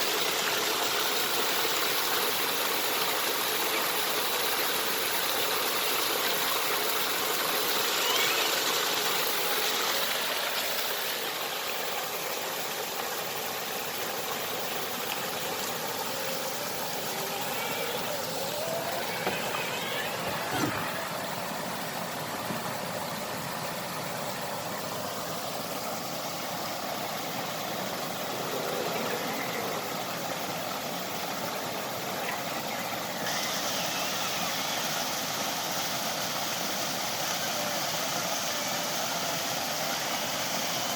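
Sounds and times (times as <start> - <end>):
rushing hiss: 0.0 - 40.9.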